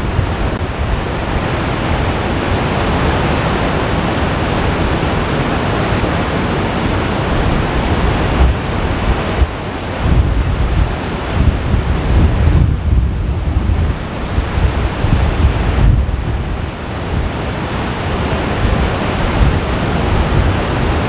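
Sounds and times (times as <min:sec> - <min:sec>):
rushing water and spray: 0:00.0 - 0:21.0
wind gusts on microphone: 0:00.0 - 0:21.0.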